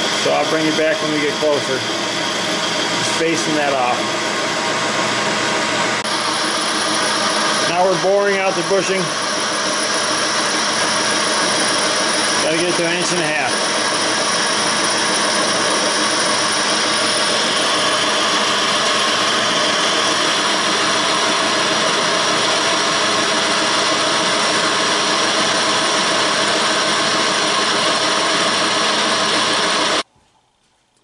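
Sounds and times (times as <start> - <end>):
lathe cutting metal: 0.0 - 30.0.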